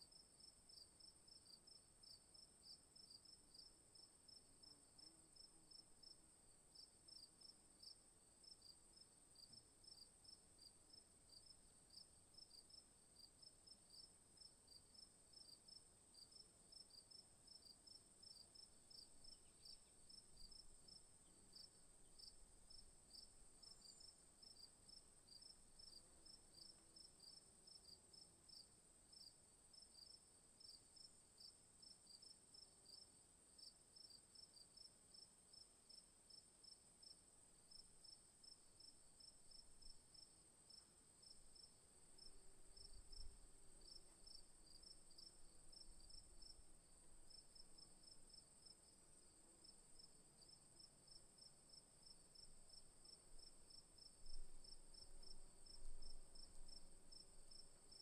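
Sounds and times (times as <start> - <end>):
crickets chirping: 6.8 - 58.0.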